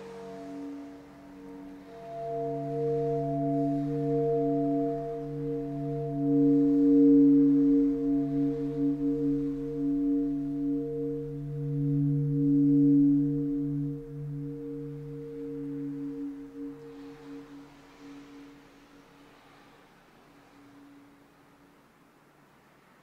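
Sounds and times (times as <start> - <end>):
low droning hum: 0.0 - 22.1.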